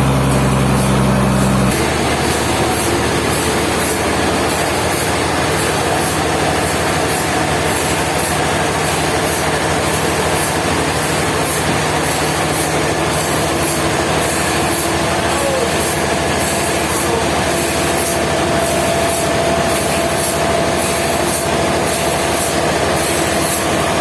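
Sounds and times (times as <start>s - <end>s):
saw blade cutting log: 0.2s - 24.0s.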